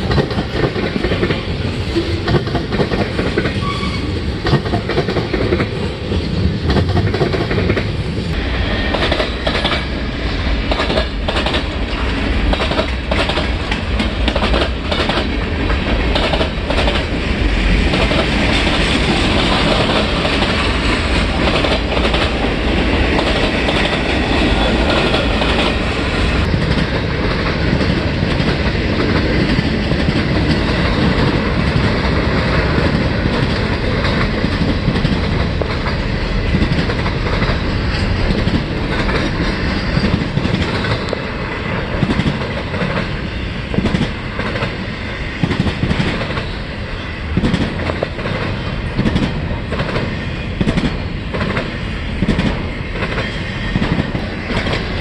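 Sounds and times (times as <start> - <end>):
clickety-clack over rail joints: 0.0 - 8.0, 8.8 - 55.0
train wheels rumbling on rail: 0.0 - 55.0.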